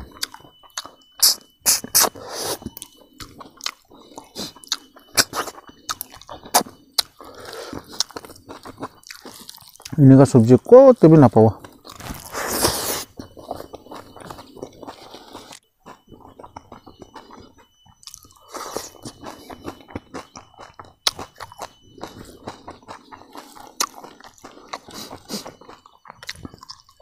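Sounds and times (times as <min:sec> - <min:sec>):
chewing and crunching: 0:00.0 - 0:27.0.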